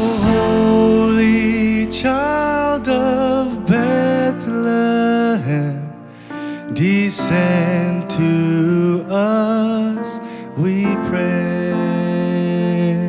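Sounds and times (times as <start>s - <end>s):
christmas carol arrangement: 0.0s - 13.0s.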